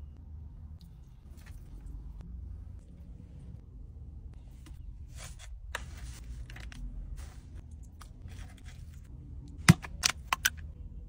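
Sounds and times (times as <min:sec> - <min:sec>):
low hum inside car: 0:00.0 - 0:11.0.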